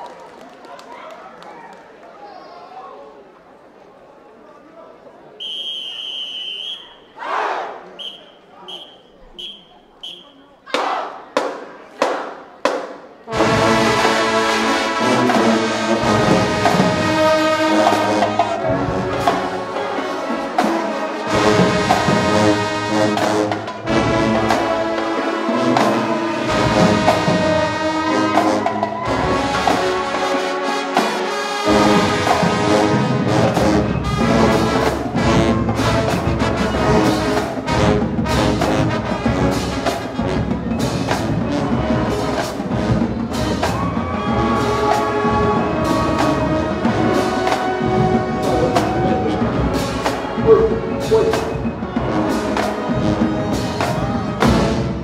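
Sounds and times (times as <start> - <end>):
marching band playing brass tune: 5.4 - 55.0.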